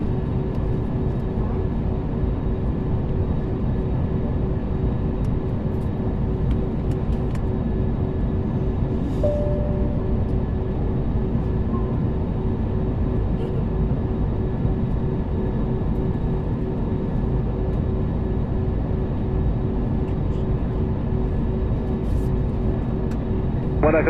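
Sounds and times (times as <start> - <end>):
airliner engine and cabin rumble: 0.0 - 24.0.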